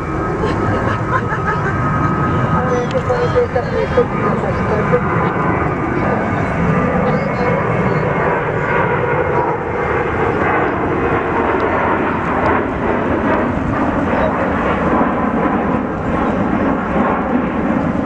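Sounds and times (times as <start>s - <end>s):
jet airliner engines roaring: 0.0s - 18.0s.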